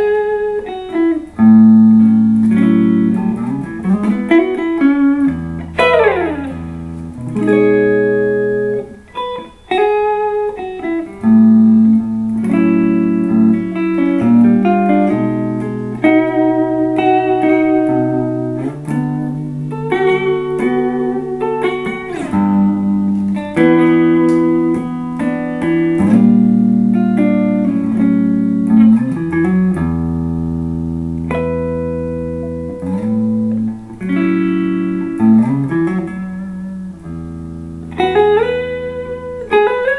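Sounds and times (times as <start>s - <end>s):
clean electric guitar playing: 0.0s - 39.9s.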